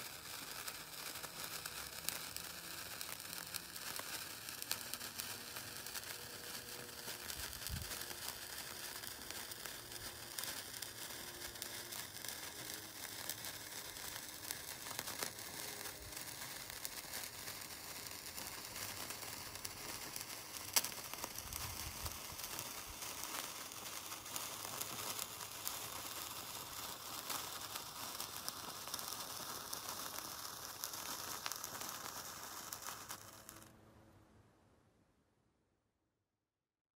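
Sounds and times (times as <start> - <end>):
sharp crack: 0.0 - 33.7
sparkler fizzing and crackling: 0.0 - 33.7.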